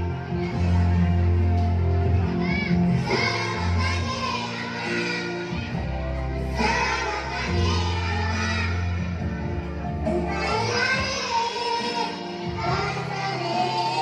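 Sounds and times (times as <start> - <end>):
backing music track: 0.0 - 14.0
children singing: 2.3 - 14.0.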